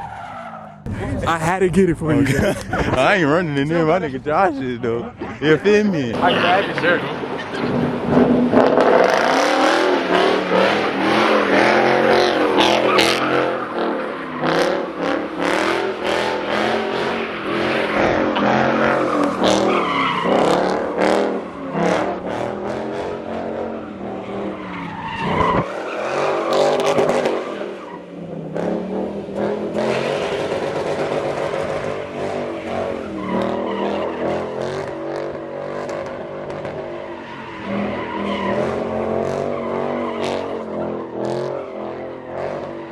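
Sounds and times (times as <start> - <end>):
car engine revving hard: 6.1 - 42.8.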